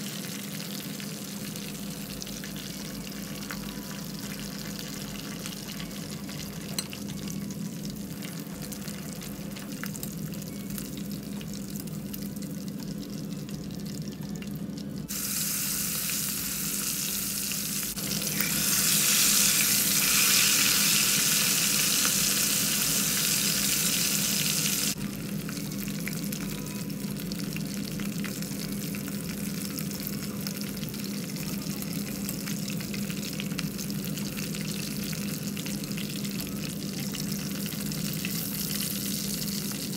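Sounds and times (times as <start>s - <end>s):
oil bubbling and sizzling: 0.0s - 39.9s.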